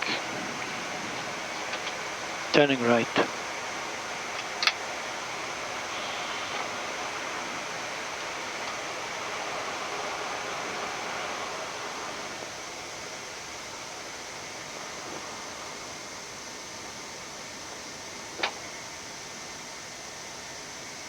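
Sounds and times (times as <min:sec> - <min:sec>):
airliner cockpit rushing noise: 0:00.0 - 0:21.0.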